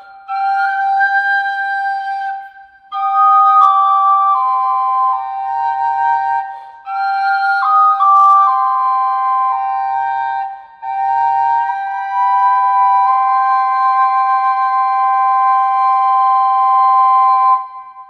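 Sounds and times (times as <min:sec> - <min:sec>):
double flute drone and melody: 0:00.0 - 0:18.0.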